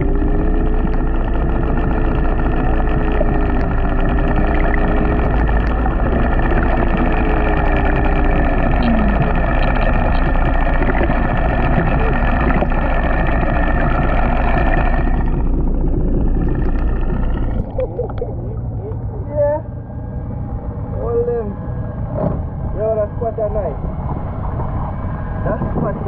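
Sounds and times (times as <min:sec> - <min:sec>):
boat engine droning underwater: 0:00.0 - 0:26.0.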